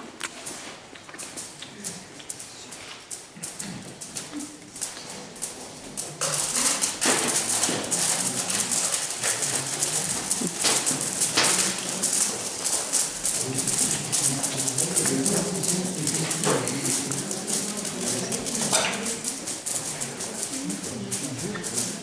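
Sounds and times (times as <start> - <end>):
murmur of voices: 1.1 - 22.0
dense steady rattling: 3.5 - 22.0.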